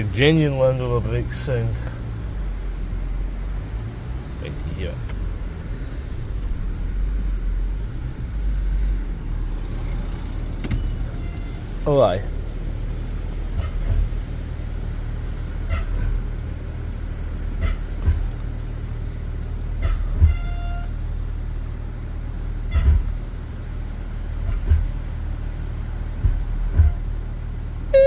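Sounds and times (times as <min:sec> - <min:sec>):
brakes squealing: 0:00.0 - 0:28.0
vehicle hum: 0:00.0 - 0:28.0.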